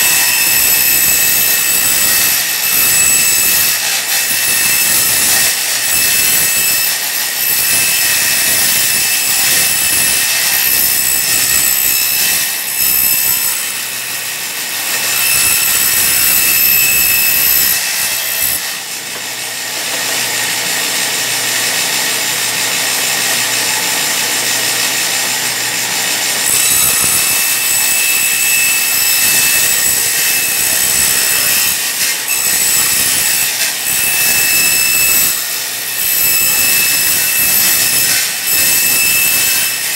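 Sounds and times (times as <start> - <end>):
table saw ripping wood: 0.0 - 39.9.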